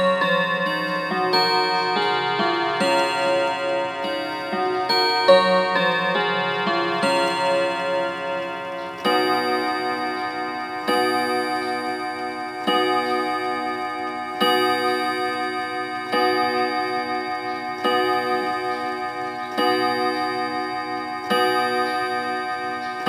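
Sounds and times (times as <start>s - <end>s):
wall clock striking gong: 0.0s - 23.0s.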